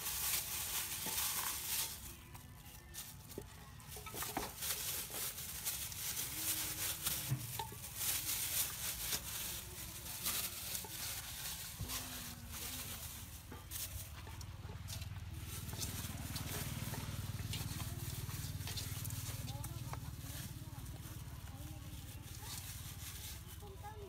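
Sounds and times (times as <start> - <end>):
plastic bag rustling: 0.0 - 24.0.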